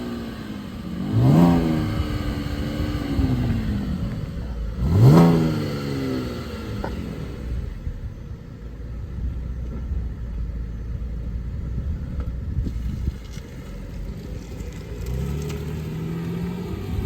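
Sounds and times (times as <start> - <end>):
car engine rumbling and revving: 0.0 - 17.0.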